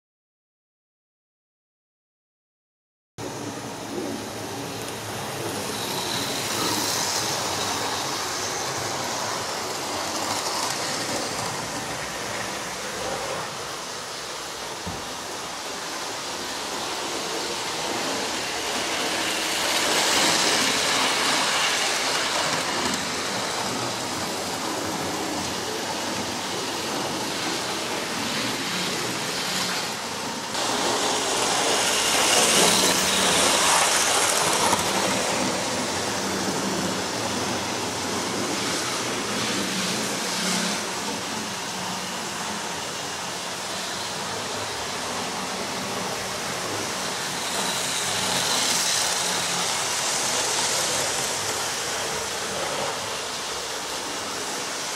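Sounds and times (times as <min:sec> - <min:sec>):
model train whirring and rattling: 0:03.2 - 0:54.9.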